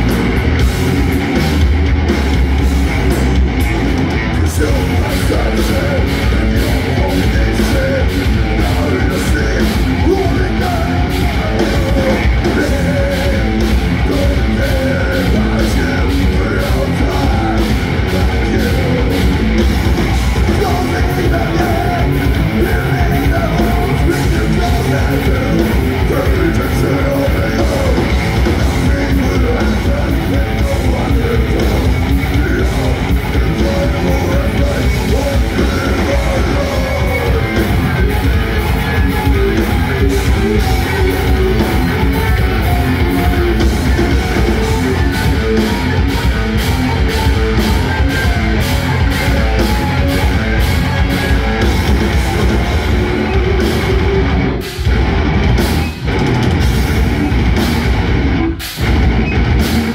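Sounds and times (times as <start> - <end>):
heavy metal band playing: 0.0 - 59.9
person singing: 4.3 - 54.4.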